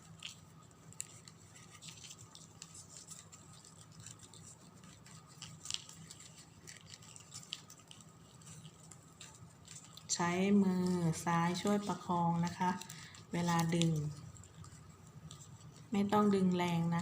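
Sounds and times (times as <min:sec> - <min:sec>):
faint steady hum: 0:00.0 - 0:17.0
ribbon rustling and scratching: 0:00.0 - 0:17.0.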